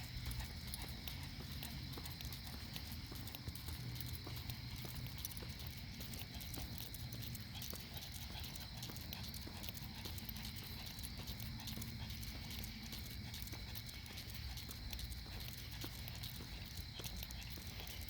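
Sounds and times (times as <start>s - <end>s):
footsteps on a hard path: 0.0s - 18.0s.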